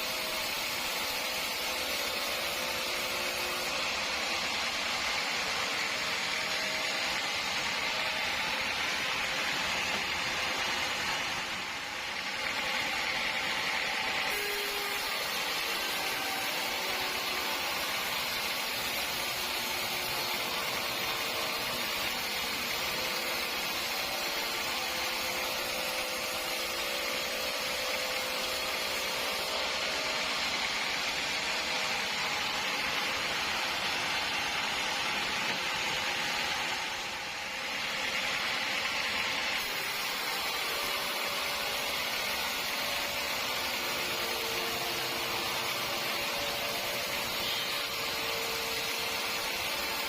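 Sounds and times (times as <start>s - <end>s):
sawmill saw cutting log: 0.0s - 50.0s.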